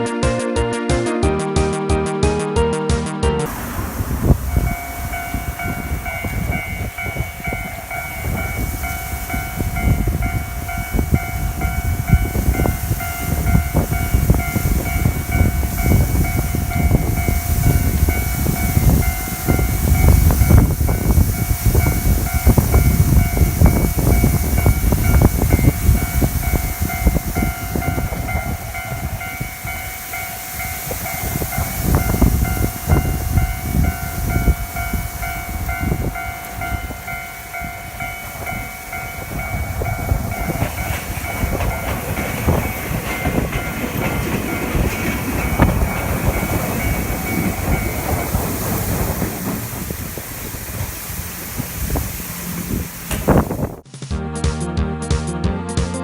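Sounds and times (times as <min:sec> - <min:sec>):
level crossing bell ringing: 0:03.4 - 0:49.0
train passing: 0:03.4 - 0:53.8
wind buffeting microphone: 0:03.5 - 0:53.8.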